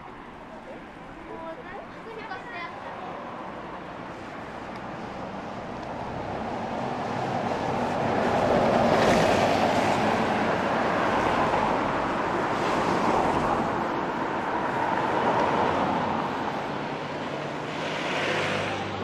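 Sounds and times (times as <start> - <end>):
cars passing on wet road: 2.4 - 19.0.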